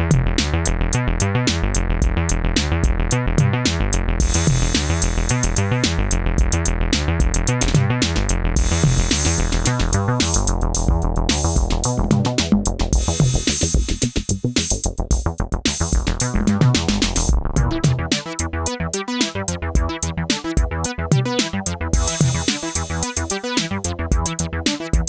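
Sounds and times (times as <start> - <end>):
synthesizer bass sequence: 0.0 - 25.0
drum machine beat: 0.1 - 25.0
hi-hats: 3.7 - 25.0.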